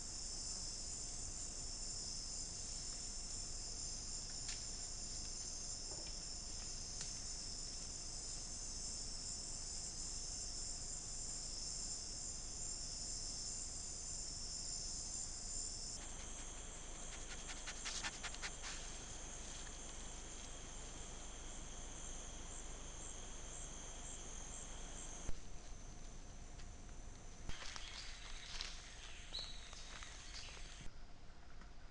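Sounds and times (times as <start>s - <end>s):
insect chorus high shrilling: 0.0s - 25.4s, 27.5s - 30.9s
insect chorus lower whine: 0.0s - 31.0s.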